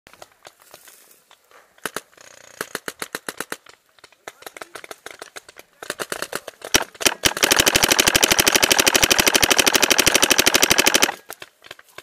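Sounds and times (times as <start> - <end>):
paintball marker firing: 1.8 - 11.5.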